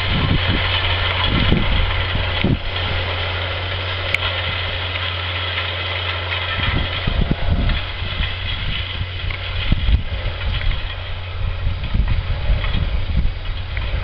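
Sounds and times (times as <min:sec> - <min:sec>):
low buffeting: 0:00.0 - 0:14.0
tractor diesel engine droning: 0:00.0 - 0:14.0.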